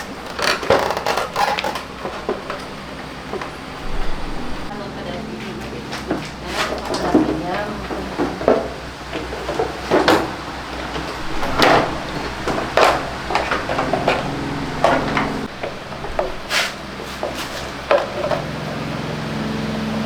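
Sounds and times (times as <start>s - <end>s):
tools knocking and clattering: 0.0s - 4.5s, 5.7s - 18.6s
steady low hum: 1.8s - 20.0s.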